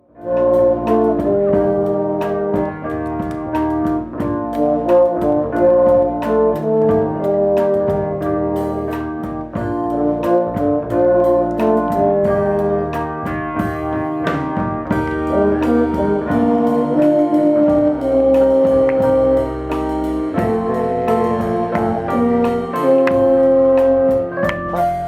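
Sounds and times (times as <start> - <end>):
brass-like melody: 0.0 - 25.0
drum hits: 0.3 - 25.0.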